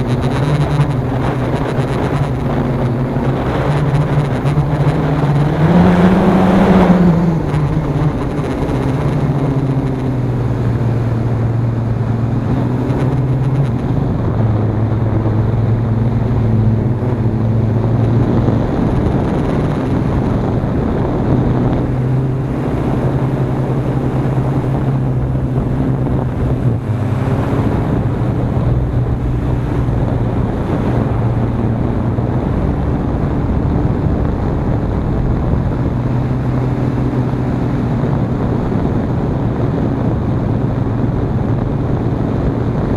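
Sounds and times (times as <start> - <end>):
drone motors and propellers droning: 0.0 - 42.9
wind buffeting microphone: 0.0 - 42.9.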